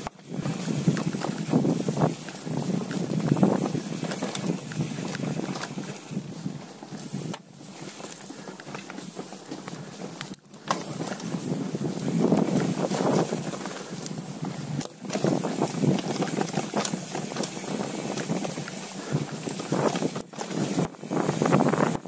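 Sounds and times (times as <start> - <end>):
bike rattling over bumps: 0.0 - 22.0
bike tyres on dirt trail: 0.0 - 22.0.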